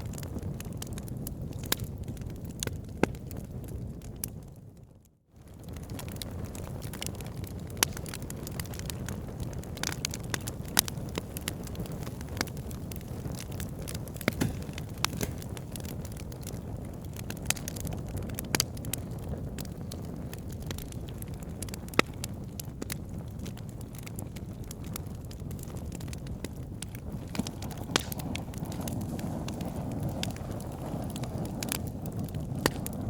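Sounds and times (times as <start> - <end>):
fire crackling and popping: 0.0 - 33.0
flames rumbling: 0.0 - 33.0.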